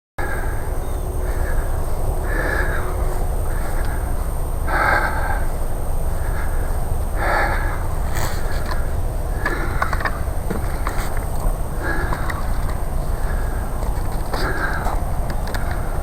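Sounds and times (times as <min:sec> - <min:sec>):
crow cawing: 0:00.2 - 0:16.0
steady low rumble: 0:00.2 - 0:16.0.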